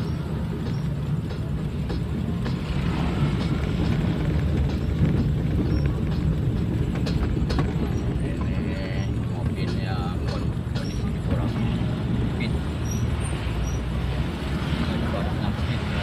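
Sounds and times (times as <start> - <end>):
minibus engine and road rumble: 0.0 - 16.0.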